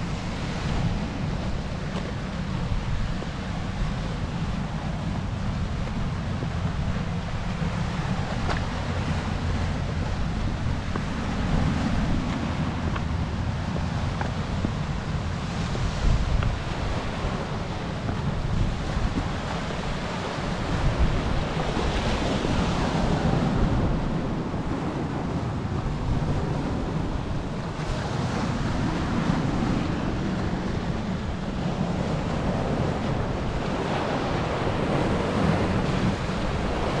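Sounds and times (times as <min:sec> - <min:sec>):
surf washing over boulders: 0:00.0 - 0:37.0
wind buffeting microphone: 0:00.0 - 0:37.0.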